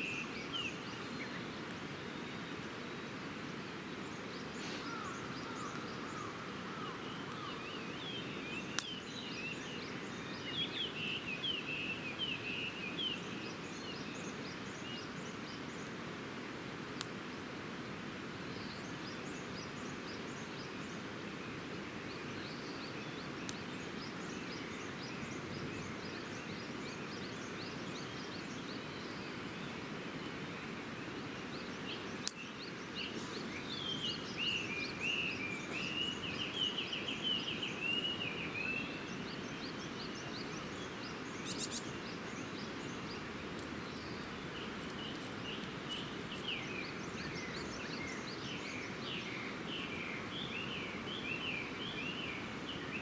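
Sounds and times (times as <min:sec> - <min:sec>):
small birds chirping: 0:00.0 - 0:16.0, 0:18.4 - 0:53.0.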